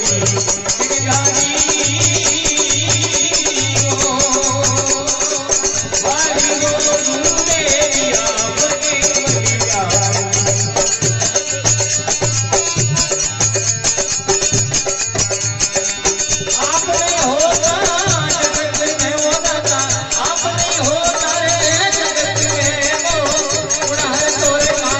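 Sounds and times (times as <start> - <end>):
rattling percussion: 0.0 - 24.9
repeating drum beat: 0.0 - 24.9.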